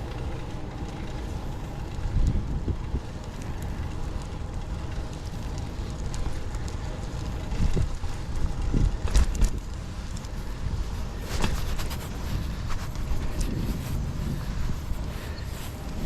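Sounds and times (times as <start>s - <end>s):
road rumble: 0.0s - 16.0s
wind buffeting microphone: 0.0s - 16.0s.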